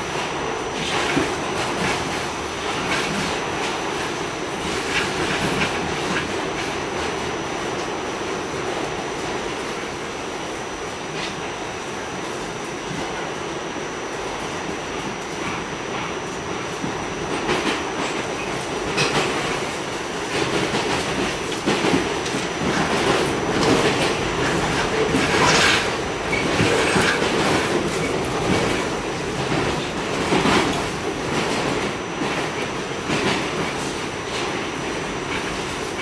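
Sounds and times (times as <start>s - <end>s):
rumble of subway car wheels: 0.0s - 36.0s.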